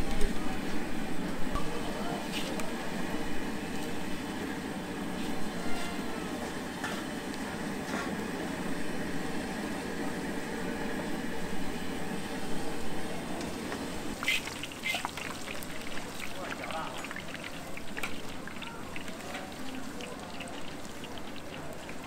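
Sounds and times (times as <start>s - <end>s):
fries sizzling in oil: 0.0s - 22.0s.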